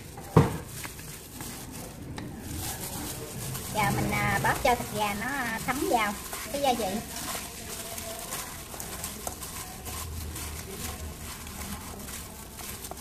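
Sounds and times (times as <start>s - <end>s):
plastic glove rustling: 0.0s - 13.0s
wet meat squishing: 0.0s - 13.0s.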